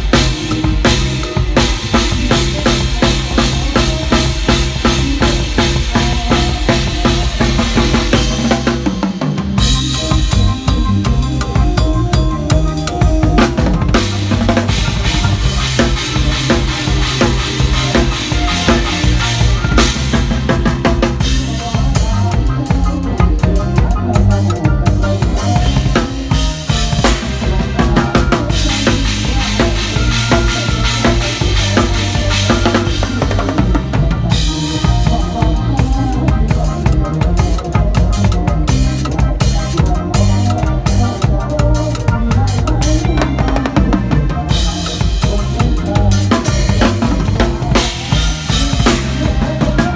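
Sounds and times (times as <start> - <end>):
band music: 0.0 - 49.9
bass line: 0.0 - 49.9
drum kit beat: 0.0 - 49.9.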